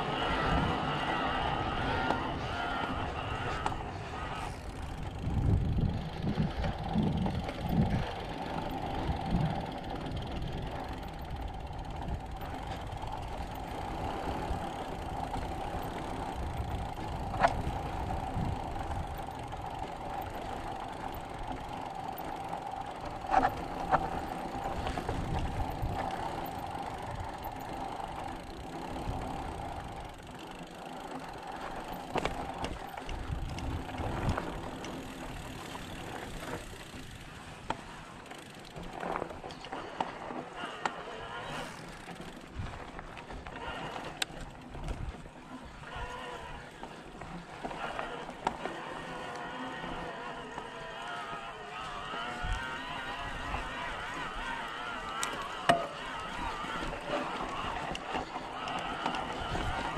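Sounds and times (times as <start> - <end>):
bike freehub buzzing: 0.0 - 59.9.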